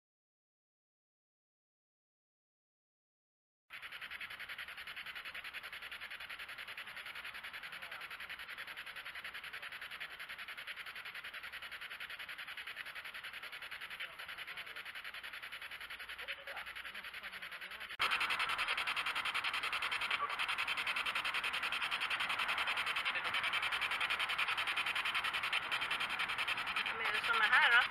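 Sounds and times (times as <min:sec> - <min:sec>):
chopped radio static: 0:03.7 - 0:27.9.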